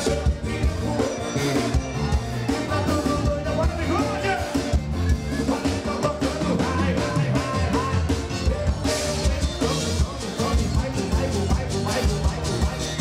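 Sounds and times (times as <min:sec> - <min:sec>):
accordion: 0:00.0 - 0:13.0
drums: 0:00.0 - 0:13.0
man singing: 0:00.0 - 0:13.0.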